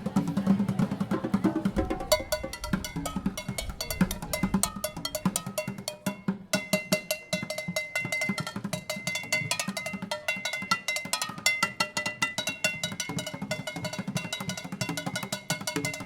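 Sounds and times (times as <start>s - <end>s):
fast drum rhythm: 0.0s - 16.0s.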